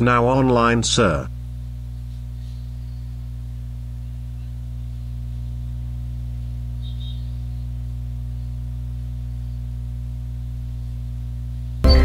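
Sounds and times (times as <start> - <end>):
low electronic drone: 0.0 - 12.0.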